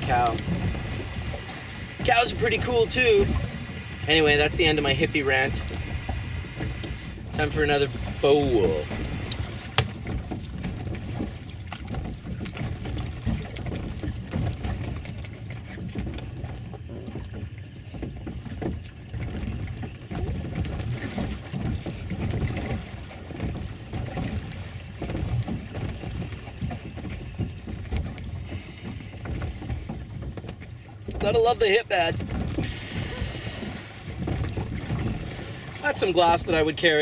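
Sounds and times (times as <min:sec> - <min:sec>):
wind and water noise: 0:00.0 - 0:37.0.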